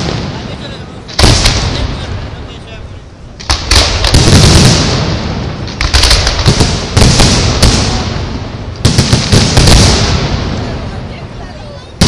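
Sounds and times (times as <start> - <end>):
fireworks bursting with rumble: 0.0 - 12.0.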